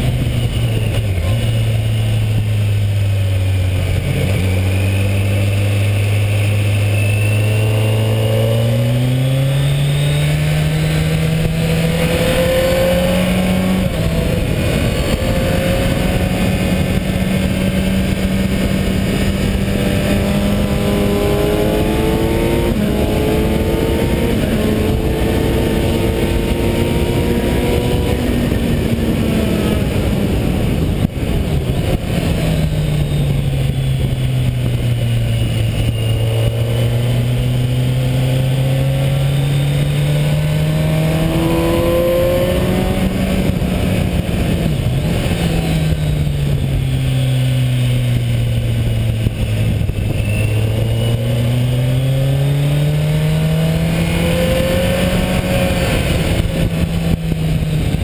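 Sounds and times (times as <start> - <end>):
loud wind rush: 0.0 - 58.0
motorcycle engine revving: 0.0 - 58.0.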